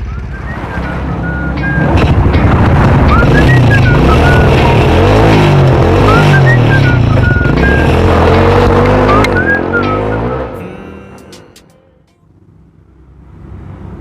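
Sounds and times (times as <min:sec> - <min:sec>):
music melody: 0:00.0 - 0:12.3
motorcycle engine running: 0:00.0 - 0:13.4.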